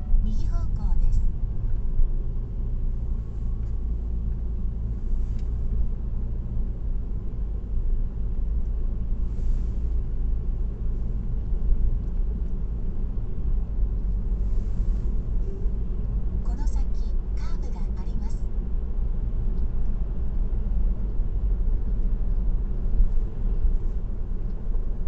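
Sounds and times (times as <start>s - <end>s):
car road rumble: 0.0s - 25.0s.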